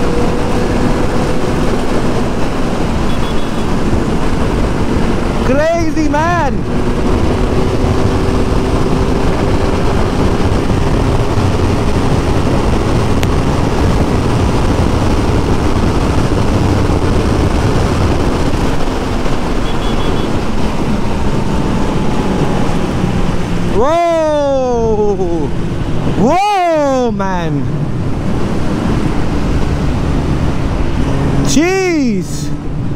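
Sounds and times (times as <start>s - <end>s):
wind rush over microphone: 0.0s - 26.4s, 27.0s - 31.6s
motorcycle engine drone: 0.0s - 32.9s.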